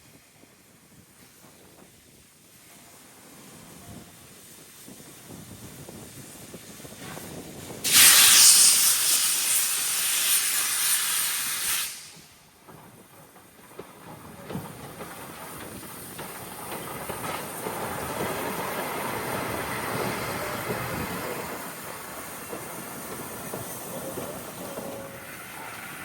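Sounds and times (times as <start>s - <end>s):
steam locomotive venting steam: 0.0s - 26.0s
train rumble: 0.0s - 26.0s.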